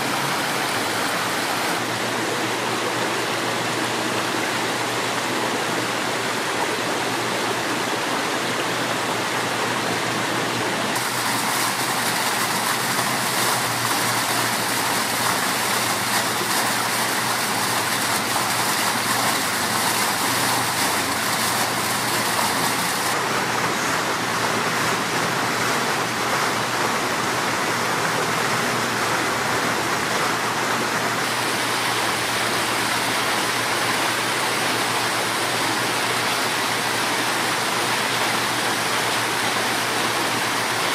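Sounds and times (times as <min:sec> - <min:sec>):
fountain water splashing: 0:00.0 - 0:40.9.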